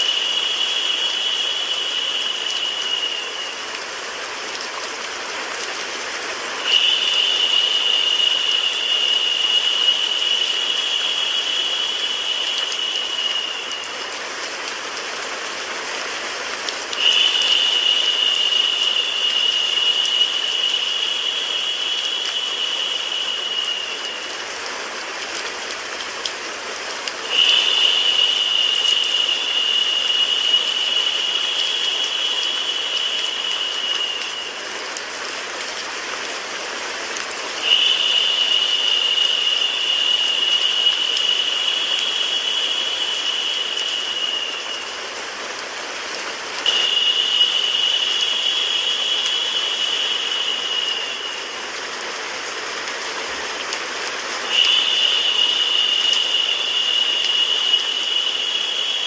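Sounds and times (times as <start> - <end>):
rain-like white noise: 0.0 - 59.0.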